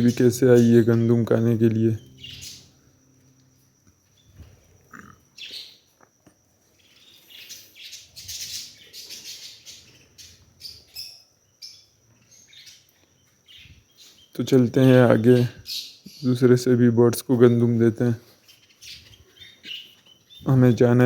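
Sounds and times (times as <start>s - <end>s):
aviary birds chirping: 0.0s - 21.0s.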